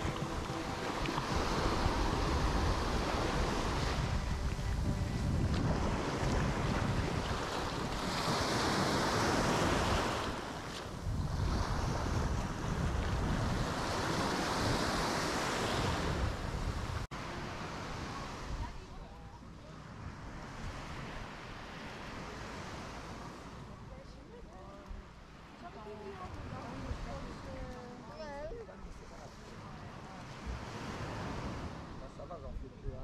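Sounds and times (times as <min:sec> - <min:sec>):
small waves breaking on a beach: 0:00.0 - 0:33.0
wind rumbling on microphone: 0:00.0 - 0:33.0.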